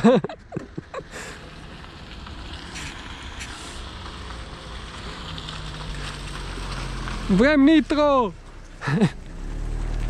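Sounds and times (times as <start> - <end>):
car engine approaching: 0.0 - 10.0
tyres on gravel: 0.0 - 10.0.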